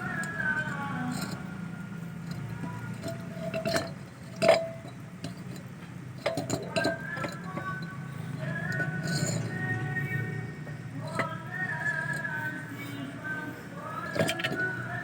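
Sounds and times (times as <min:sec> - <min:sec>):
metal parts clinking and tapping: 0:00.0 - 0:01.5, 0:02.2 - 0:10.0, 0:10.6 - 0:13.0, 0:14.0 - 0:15.0.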